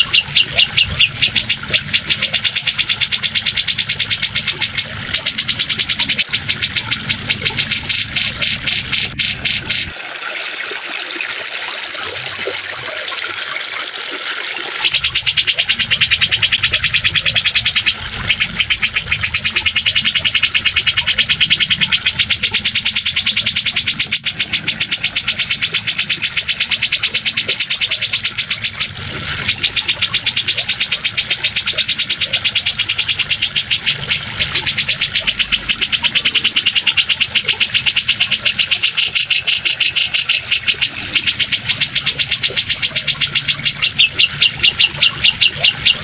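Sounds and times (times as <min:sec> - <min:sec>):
bird chattering: 0:00.0 - 0:09.9, 0:14.8 - 0:46.0
rushing water: 0:00.0 - 0:46.0.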